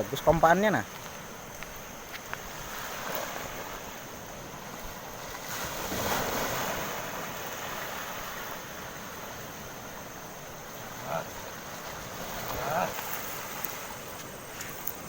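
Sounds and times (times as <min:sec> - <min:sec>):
wind: 0:00.0 - 0:15.0
surf: 0:02.1 - 0:15.0.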